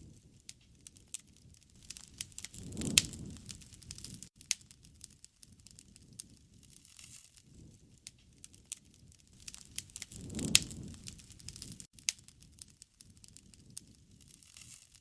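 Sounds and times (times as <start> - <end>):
campfire wood crackling: 0.0 - 15.0
low rumble of burning fire: 0.0 - 15.0
wood popping: 0.6 - 7.2, 8.0 - 15.0.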